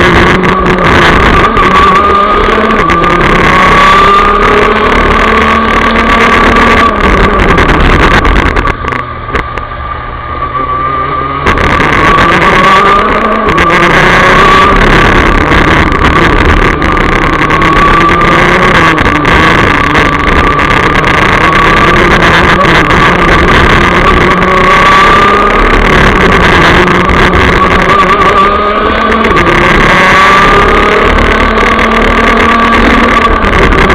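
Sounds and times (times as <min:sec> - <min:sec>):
kart engine revving hard: 0:00.0 - 0:33.9.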